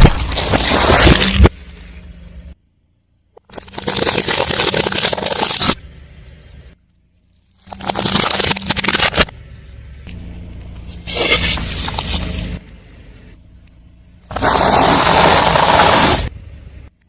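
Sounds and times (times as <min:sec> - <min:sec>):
car engine low hum: 0:00.0 - 0:03.5, 0:05.4 - 0:17.0.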